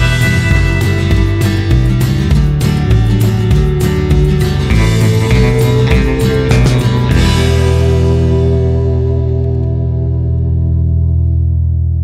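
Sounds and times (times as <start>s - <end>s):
guitar music with steady beat: 0.0s - 12.0s.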